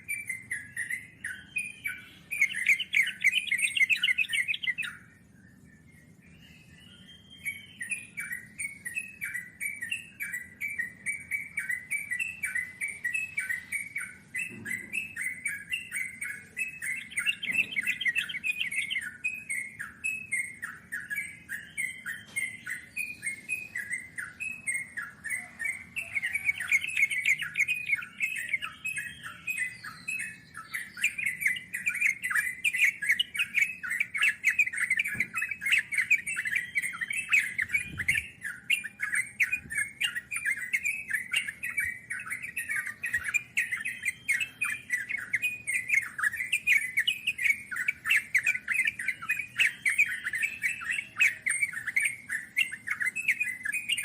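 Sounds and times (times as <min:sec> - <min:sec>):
bird song chatter: 0:00.0 - 0:54.0.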